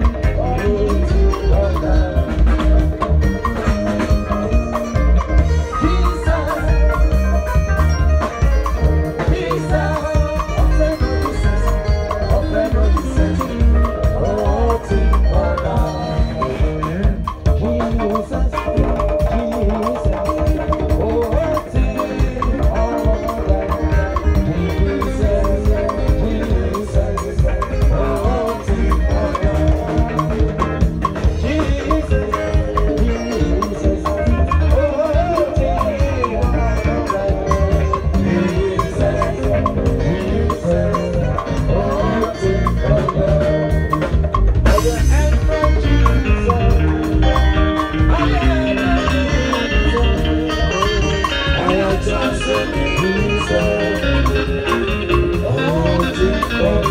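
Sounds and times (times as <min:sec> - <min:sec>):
drum kit and percussion beat: 0:00.0 - 0:56.9.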